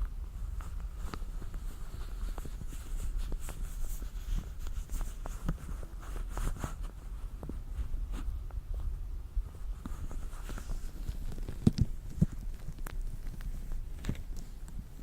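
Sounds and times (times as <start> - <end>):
latex gloves rubbing and crackling: 0.0 - 15.0.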